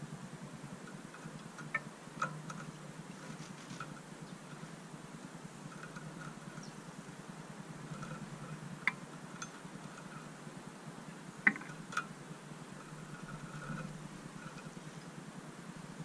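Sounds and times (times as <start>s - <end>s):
low background hum: 0.0s - 16.0s
birds pecking at metal feeder: 0.7s - 16.0s.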